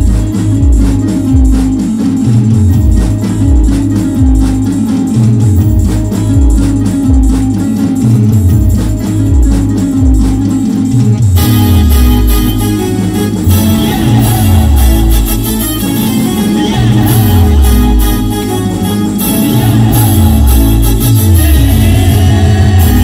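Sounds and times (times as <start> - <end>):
electronic dance music: 0.0 - 23.0
high percussion: 0.0 - 23.0.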